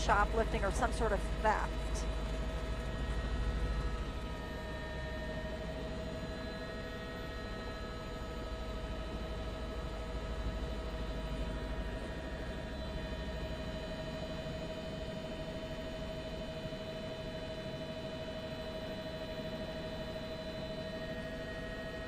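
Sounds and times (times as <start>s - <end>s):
helicopter cabin noise: 0.0s - 22.0s.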